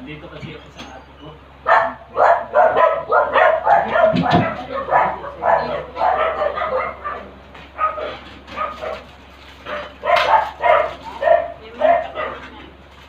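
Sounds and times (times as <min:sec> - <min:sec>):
dog barking: 0:01.6 - 0:12.6.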